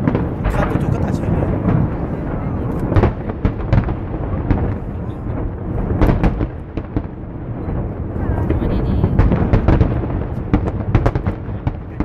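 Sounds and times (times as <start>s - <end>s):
distant fireworks booming: 0.0s - 12.0s
sharp firework cracks: 0.0s - 12.0s.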